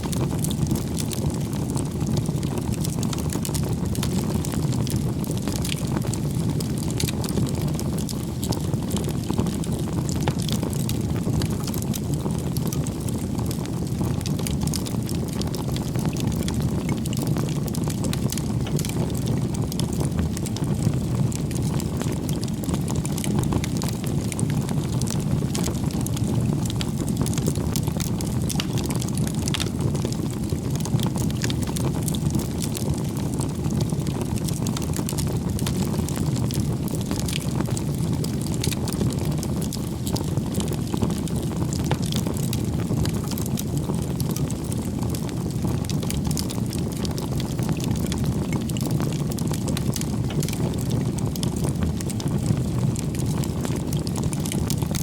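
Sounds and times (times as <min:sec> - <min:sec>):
campfire flames rushing: 0:00.0 - 0:55.0
firewood crackling and popping: 0:00.0 - 0:55.0.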